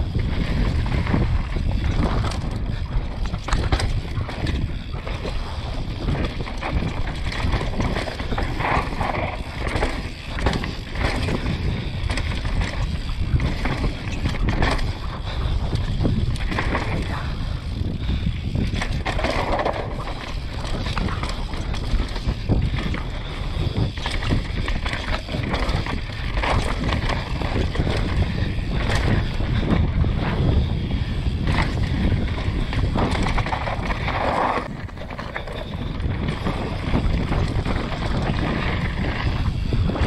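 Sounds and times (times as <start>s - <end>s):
bike clattering over bumps: 0.0s - 40.0s
wind buffeting microphone: 0.0s - 40.0s
tyres on dirt and roots: 0.1s - 30.3s, 30.9s - 40.0s.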